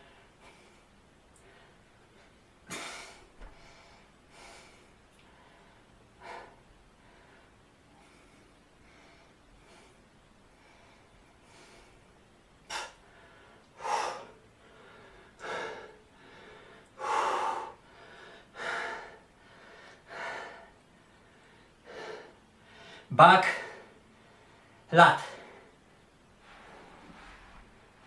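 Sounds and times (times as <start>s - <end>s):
man breathing hard: 0.0s - 25.8s.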